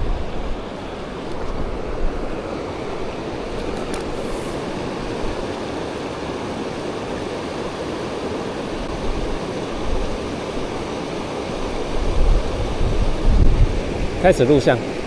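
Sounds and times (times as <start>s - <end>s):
rushing water: 0.0s - 15.0s
strong wind: 0.0s - 15.0s.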